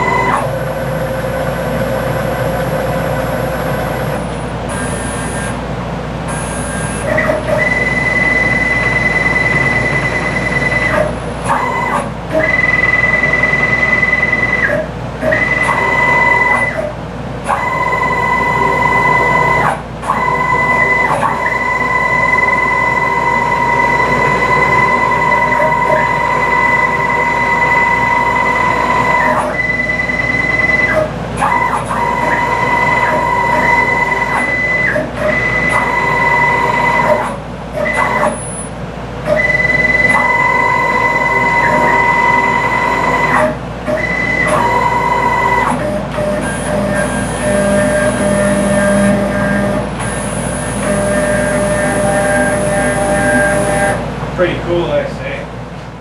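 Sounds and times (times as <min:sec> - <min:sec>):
stepper motors whining: 0:00.0 - 0:05.6, 0:06.3 - 0:54.1.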